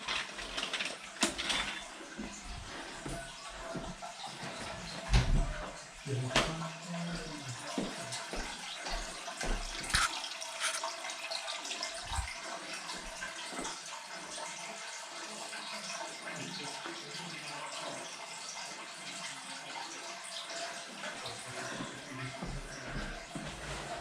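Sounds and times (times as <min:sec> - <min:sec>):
tap water running into sink: 0:00.0 - 0:24.0.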